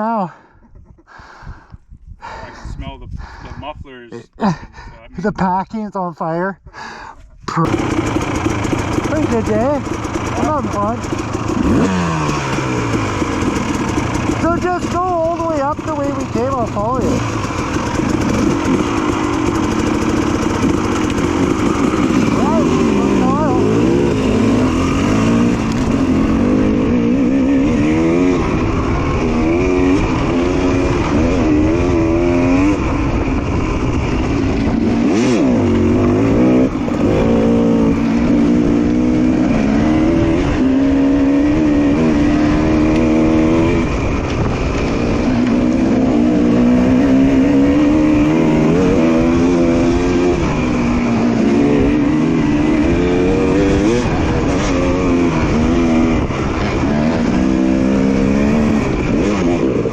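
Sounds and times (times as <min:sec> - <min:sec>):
two-stroke dirt bike engine revving: 0:07.6 - 0:59.9.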